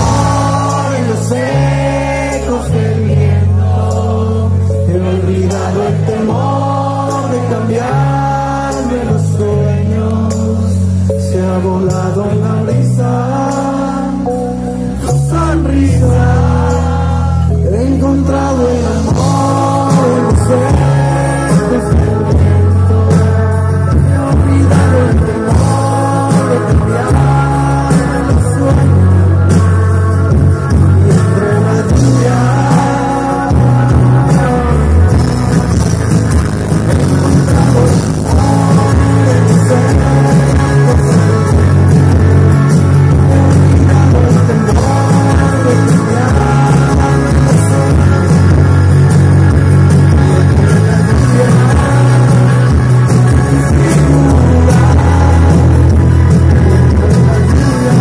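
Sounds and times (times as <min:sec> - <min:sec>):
person singing: 0:00.0 - 0:36.0, 0:36.9 - 0:58.0
heavy bass line: 0:00.0 - 0:58.0
live rock band playing: 0:00.0 - 0:58.0.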